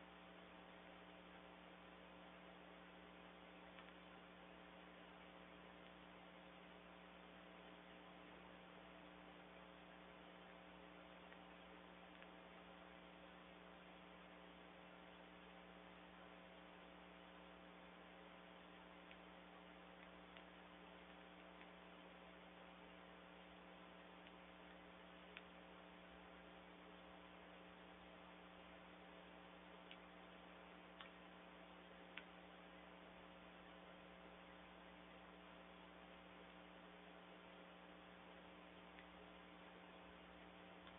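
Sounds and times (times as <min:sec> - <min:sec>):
faint ticks: 0:00.0 - 0:28.8, 0:29.4 - 0:40.9
faint electrical hum: 0:00.0 - 0:40.9.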